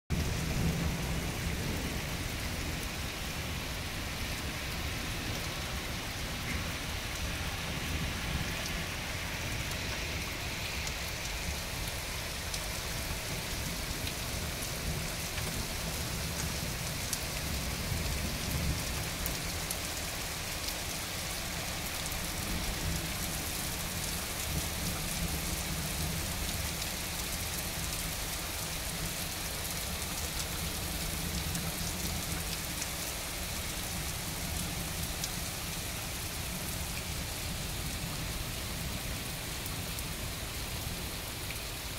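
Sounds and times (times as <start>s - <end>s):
heavy rain falling: 0.1s - 41.9s.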